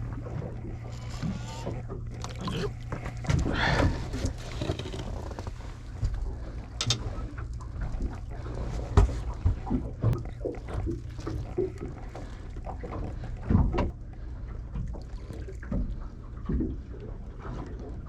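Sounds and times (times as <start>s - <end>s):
fishing boat engine hum: 0.0s - 18.0s.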